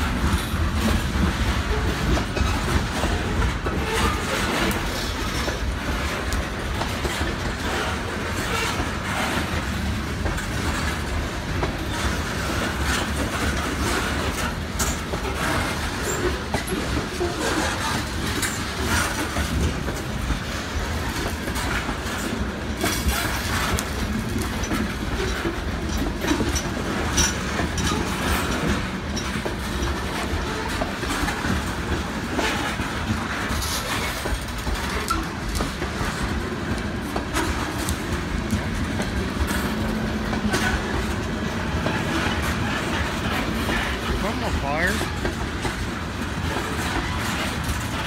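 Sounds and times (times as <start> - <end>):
steel wheels rumbling on rail: 0.0 - 48.0
wheels clacking over rail joints: 0.0 - 48.0.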